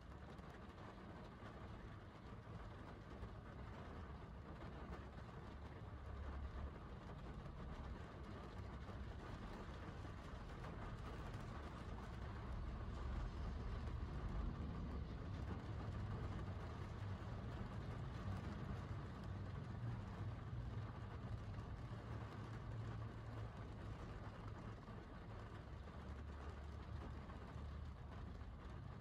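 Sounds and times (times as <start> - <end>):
rain pattering on window glass: 0.0 - 29.0.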